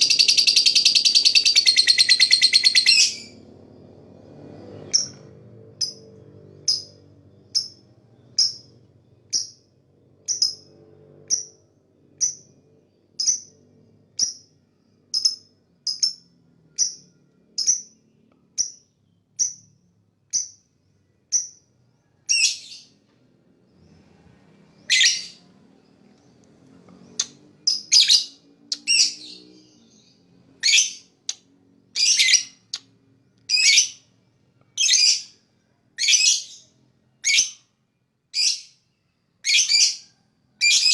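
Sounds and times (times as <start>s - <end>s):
lovebird chirping: 0.0s - 3.8s, 4.8s - 20.7s, 21.3s - 23.0s, 24.6s - 26.1s, 26.9s - 31.4s, 32.0s - 34.1s, 34.7s - 35.4s, 36.0s - 37.7s, 38.4s - 38.8s, 39.4s - 40.9s.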